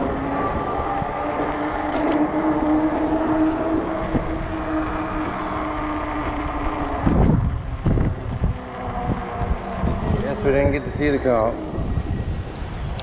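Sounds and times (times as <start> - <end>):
e-bike hub motor hum: 0.0 - 13.0
tyre and road noise: 0.0 - 13.0
wind buffeting microphone: 0.0 - 13.0.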